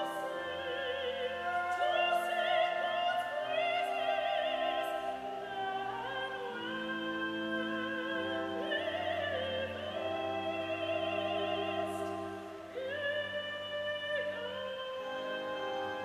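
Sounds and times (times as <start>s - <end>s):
operatic soprano singing: 0.0s - 16.0s
sustained instrumental accompaniment: 0.0s - 16.0s.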